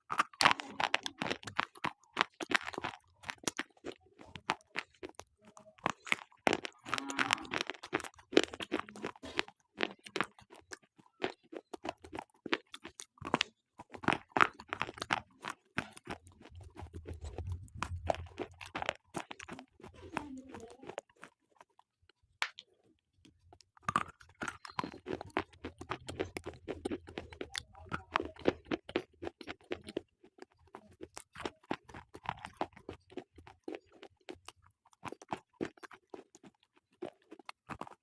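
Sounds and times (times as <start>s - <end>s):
slate pencils being chewed: 0.0s - 38.0s.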